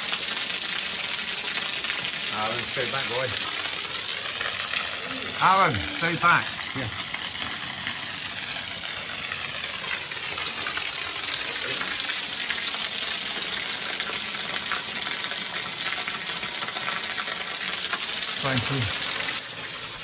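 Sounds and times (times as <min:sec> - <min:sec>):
waterfall splashing: 0:00.9 - 0:20.0.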